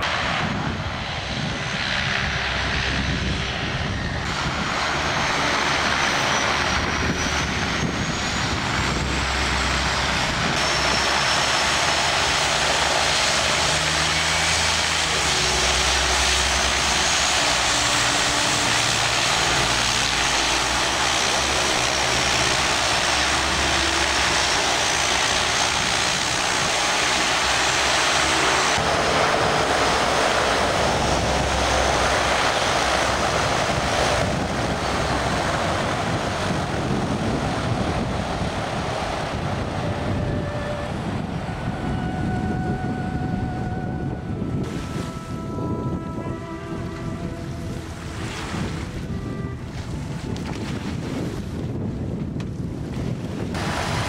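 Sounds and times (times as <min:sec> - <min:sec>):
high turbine whine: 0:00.0 - 0:54.0
turboprop engines droning: 0:00.0 - 0:54.0.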